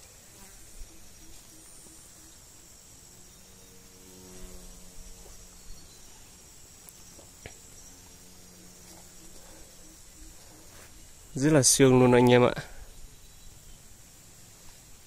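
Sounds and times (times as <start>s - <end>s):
high insect chirring: 0.0s - 15.0s
low buzzing hum: 0.0s - 15.0s.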